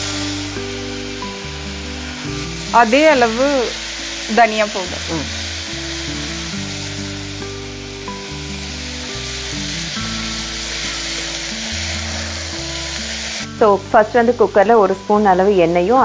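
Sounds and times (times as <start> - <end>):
background music with low notes: 0.0 - 16.0
food sizzling in hot oil: 0.0 - 16.0.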